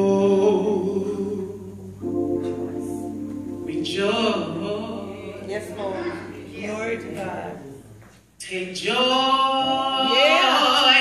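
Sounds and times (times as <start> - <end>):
slow singing with held notes: 0.0 - 11.0.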